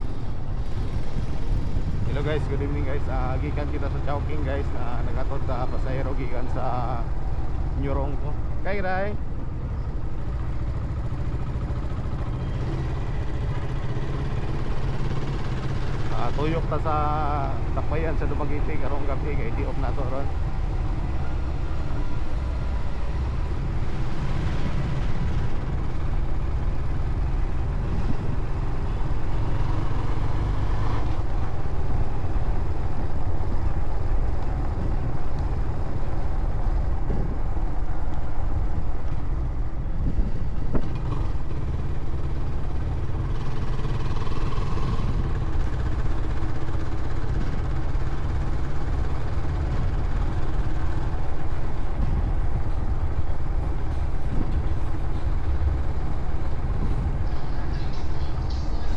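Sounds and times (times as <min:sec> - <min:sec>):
motorcycle engine rumbling: 0:00.0 - 0:58.9.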